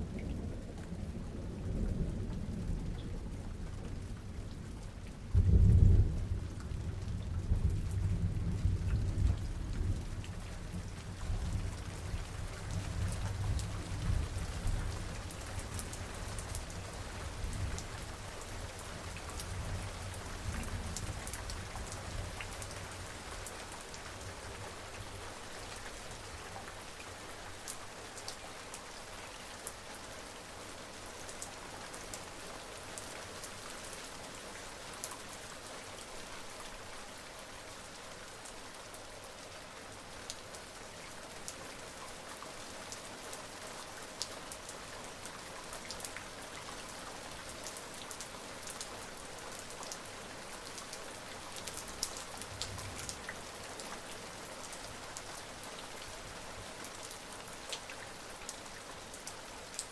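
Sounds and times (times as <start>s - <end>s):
raindrops ticking close by: 0.0s - 59.9s
steady rain falling: 0.0s - 59.9s.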